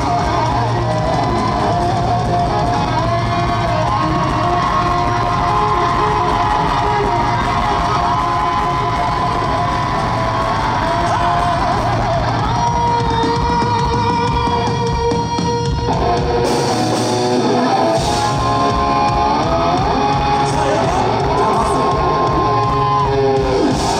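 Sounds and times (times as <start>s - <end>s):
person singing: 0.0s - 15.1s, 17.5s - 23.9s
drum kit: 0.0s - 23.9s
electric guitar: 0.0s - 23.9s.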